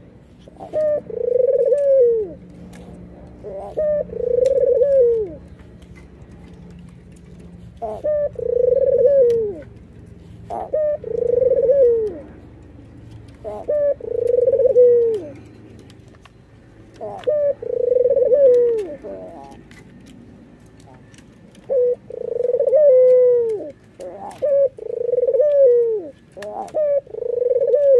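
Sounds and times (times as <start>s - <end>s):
dove cooing: 0.0s - 27.9s.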